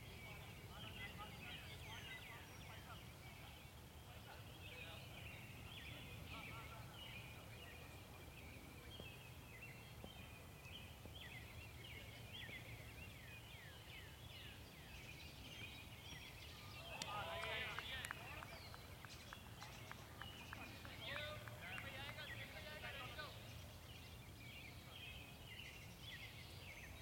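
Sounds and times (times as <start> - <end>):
faint birdsong: 0.0 - 27.0.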